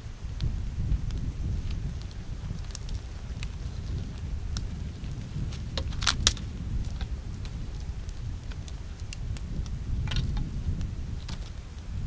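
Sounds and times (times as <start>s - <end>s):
steady low rumble: 0.0s - 12.0s
dry branches cracking: 0.4s - 12.0s.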